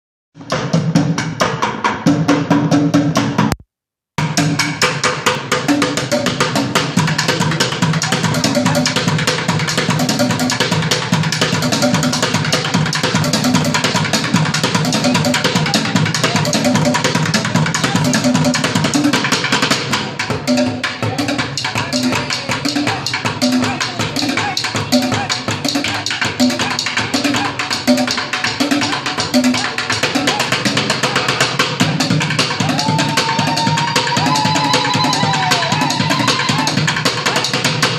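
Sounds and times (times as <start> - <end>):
fast percussion groove: 0.4 - 3.6, 4.2 - 37.9.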